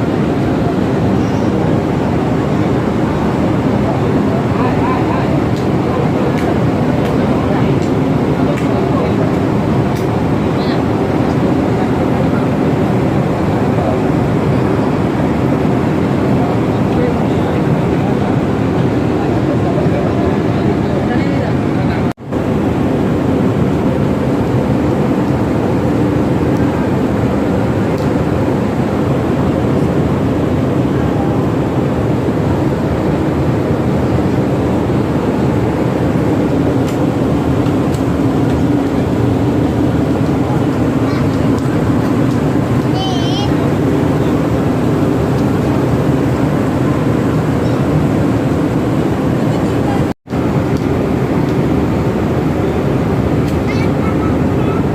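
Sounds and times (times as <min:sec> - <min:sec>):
ship rumbling: 0:00.0 - 0:54.9.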